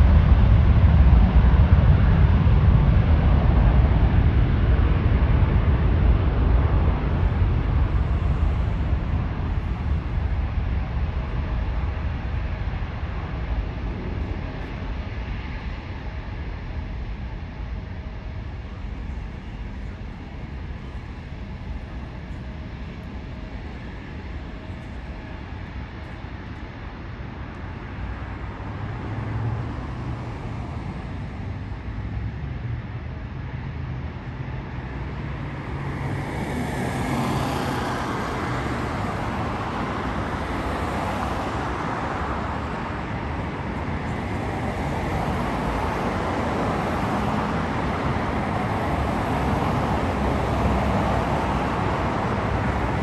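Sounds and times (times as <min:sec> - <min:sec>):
jet airliner engines roaring: 0:00.0 - 0:53.0
low road traffic rumble: 0:00.0 - 0:53.0.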